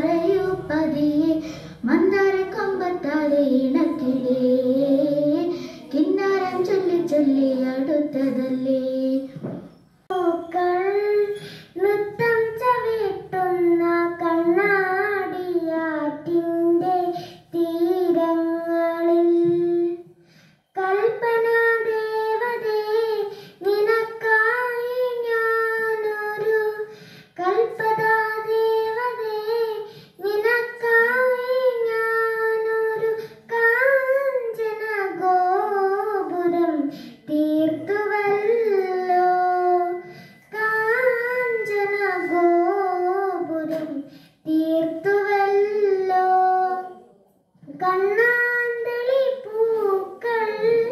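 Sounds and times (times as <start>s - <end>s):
girl singing into microphone: 0.0s - 50.9s.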